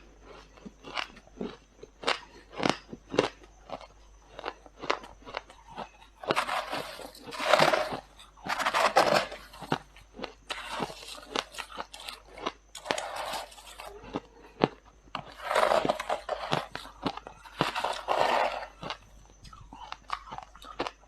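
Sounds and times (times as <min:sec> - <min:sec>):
frost being chewed: 0:00.0 - 0:21.0.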